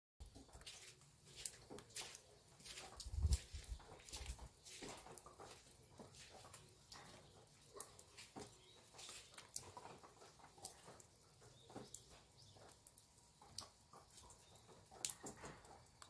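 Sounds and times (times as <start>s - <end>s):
irregular ticks and taps: 0.2s - 16.0s.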